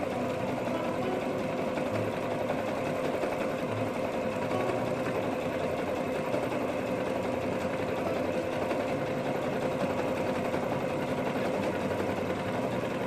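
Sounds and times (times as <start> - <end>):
sewing machine running: 0.0 - 13.0.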